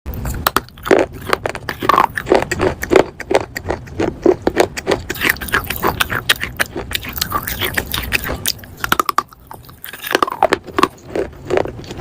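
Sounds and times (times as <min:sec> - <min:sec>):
chewing clay pot crunches: 0:00.1 - 0:12.0.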